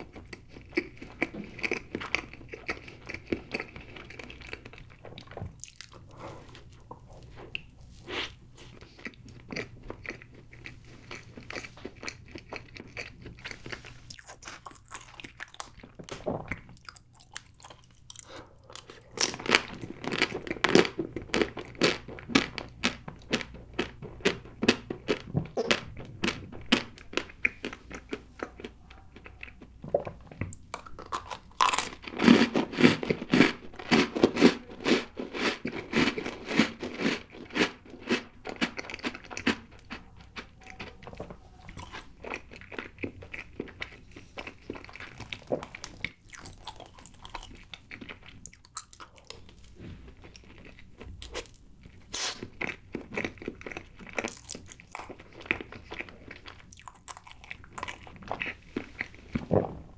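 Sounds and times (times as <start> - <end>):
person chewing cake: 0.0 - 59.9.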